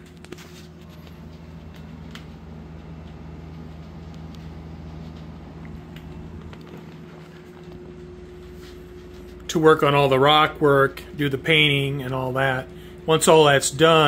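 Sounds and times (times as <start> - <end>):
air conditioner and fan hum: 0.0 - 14.0.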